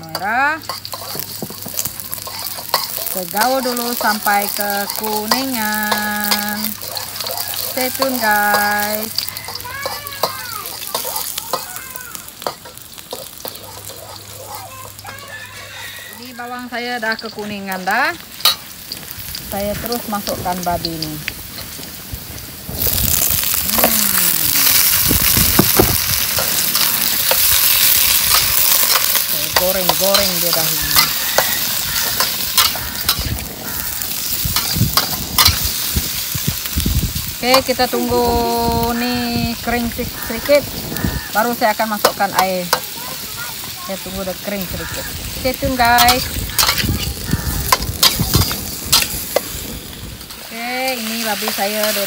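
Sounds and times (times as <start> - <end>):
garlic sizzling in hot oil: 0.0 - 52.0
metal spatula scraping wok: 0.0 - 52.0.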